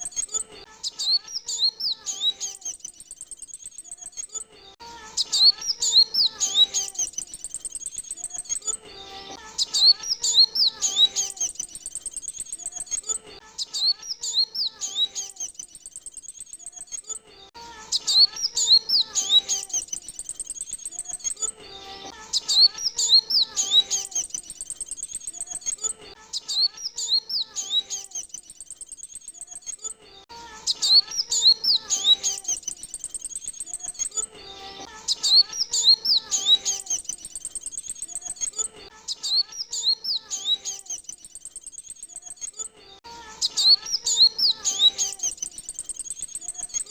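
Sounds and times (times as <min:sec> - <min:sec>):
sunbird chirping song: 0:00.0 - 0:17.2, 0:17.8 - 0:46.9.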